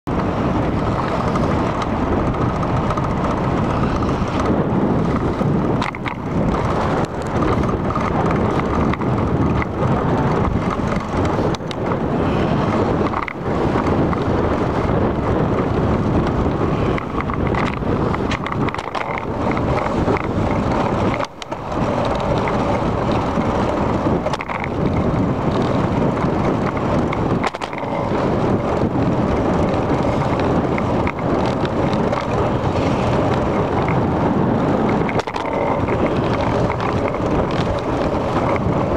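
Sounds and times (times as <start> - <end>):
bicycle tyres rolling on asphalt: 0.1 - 38.9
wind on microphone: 0.1 - 38.9.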